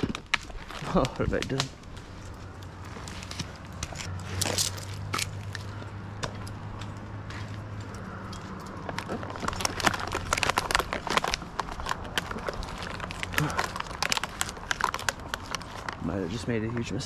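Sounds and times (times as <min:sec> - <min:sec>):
branches rustling and snapping: 0:00.0 - 0:17.0.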